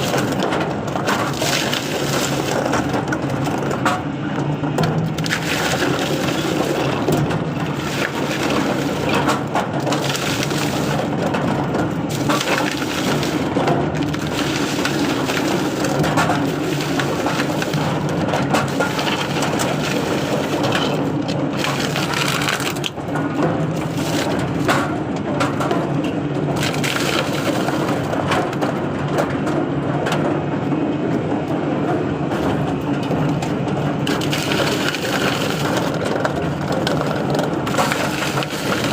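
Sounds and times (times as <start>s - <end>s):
coconut husks crunching and cracking: 0.0s - 4.0s, 4.8s - 24.9s, 26.4s - 28.6s, 34.0s - 38.9s.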